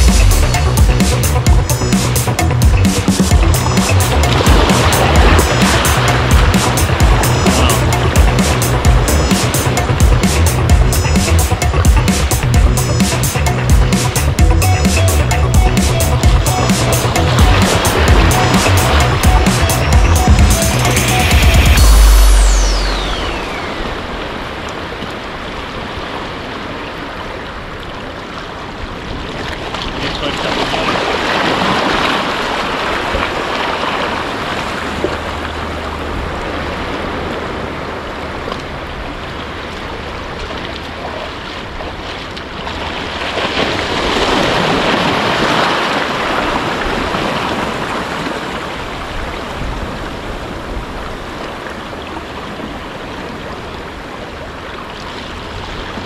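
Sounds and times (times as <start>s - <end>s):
sea surf washing in: 0.0s - 56.0s.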